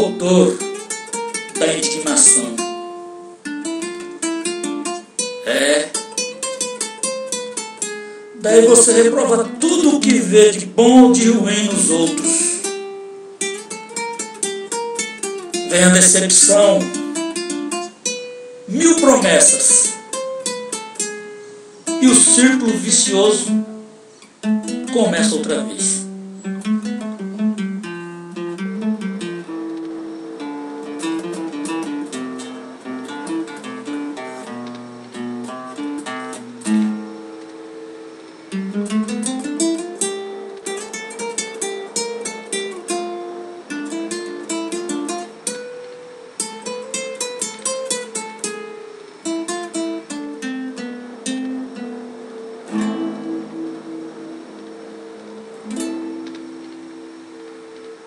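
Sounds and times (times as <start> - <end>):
solo acoustic guitar melody: 0.0 - 58.0.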